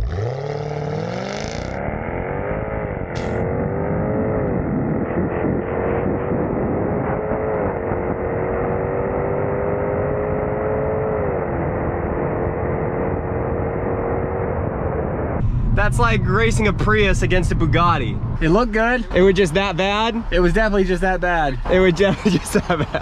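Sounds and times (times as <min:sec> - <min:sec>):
car engine accelerating hard: 0:00.0 - 0:23.0
wind and road noise: 0:00.0 - 0:23.0.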